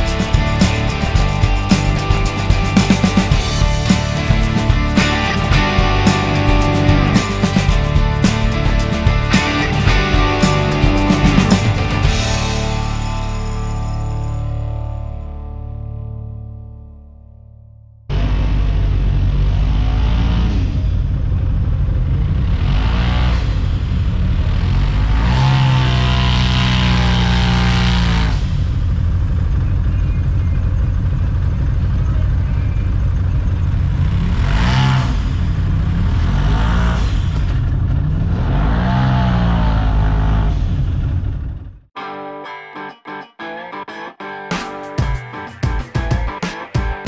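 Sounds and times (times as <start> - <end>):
utility vehicle engine revving: 0.0 - 15.5, 18.1 - 41.9.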